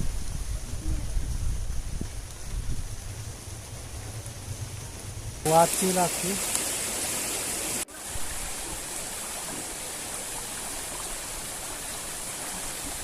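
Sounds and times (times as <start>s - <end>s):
strong wind with rain: 0.0s - 13.0s.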